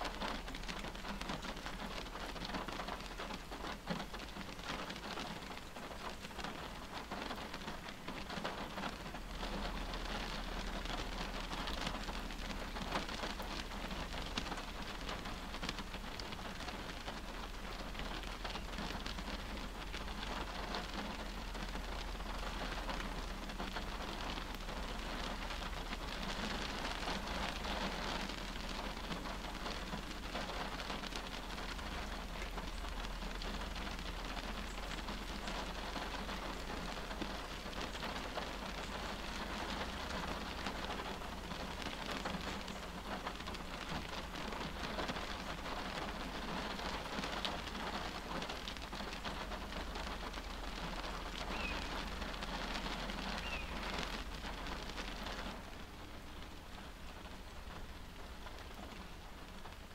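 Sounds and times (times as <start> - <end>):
rain on car roof and windshield: 0.0 - 59.9.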